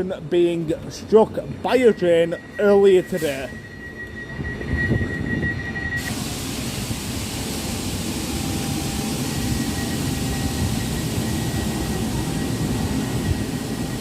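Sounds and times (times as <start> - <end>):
idling train drone and hiss: 0.0 - 14.0.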